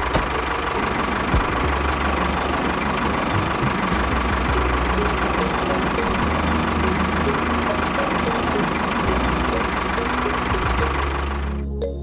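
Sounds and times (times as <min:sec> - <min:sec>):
motor rattling: 0:00.0 - 0:11.6
low motor hum: 0:00.0 - 0:12.0.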